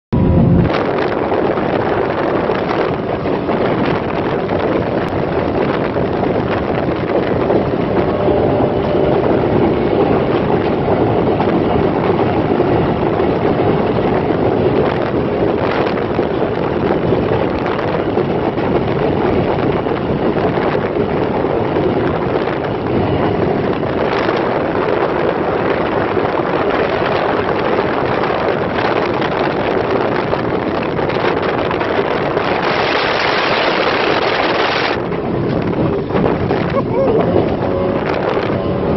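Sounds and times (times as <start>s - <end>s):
wind rushing over microphone: 0.1s - 38.9s.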